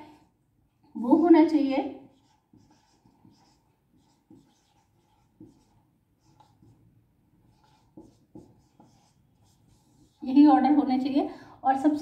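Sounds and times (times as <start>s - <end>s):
marker scratching on whiteboard: 1.0s - 10.8s.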